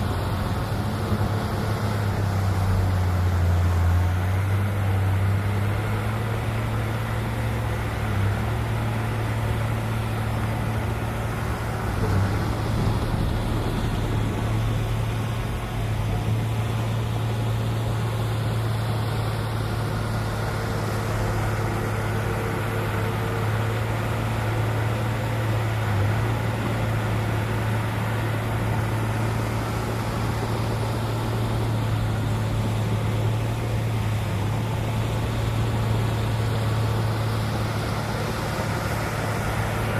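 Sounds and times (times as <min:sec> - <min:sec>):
heavy diesel machinery engine hum: 0:00.0 - 0:39.9.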